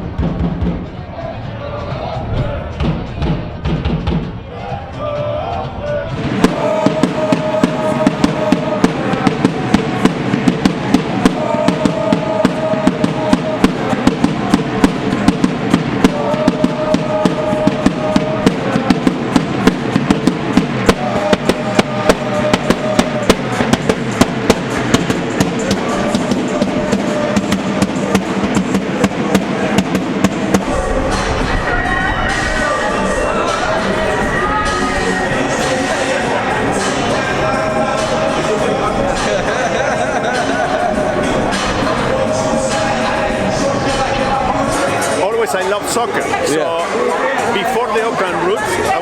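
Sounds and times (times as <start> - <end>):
drums beating fast rhythm: 0.0 - 49.0.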